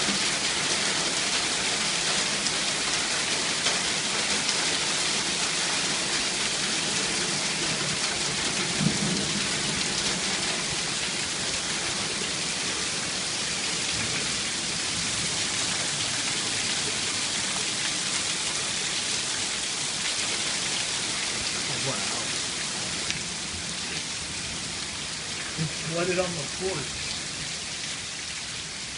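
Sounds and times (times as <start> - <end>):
hail and heavy rain pelting: 0.0 - 28.9.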